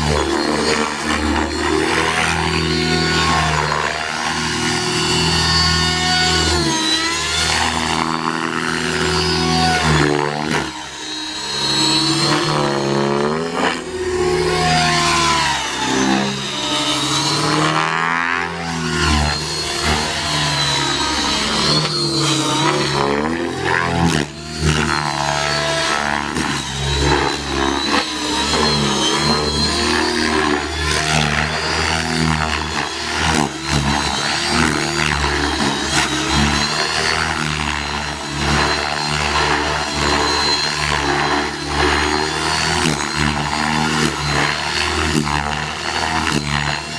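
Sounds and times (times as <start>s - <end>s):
rc helicopter motor whine: 0.0s - 46.9s
rotor blade chop: 0.0s - 46.9s.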